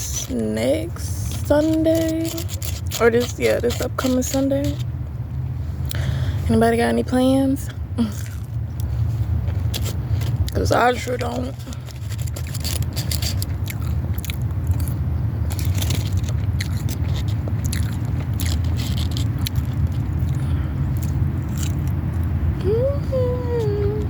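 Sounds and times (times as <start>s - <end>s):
chewing and crunching: 0.0s - 5.1s, 8.0s - 22.7s
steady low hum: 0.0s - 24.0s.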